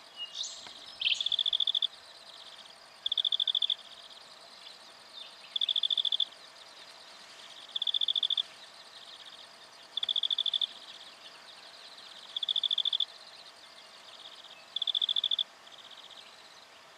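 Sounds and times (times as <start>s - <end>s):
faint high chirring: 0.0s - 16.9s.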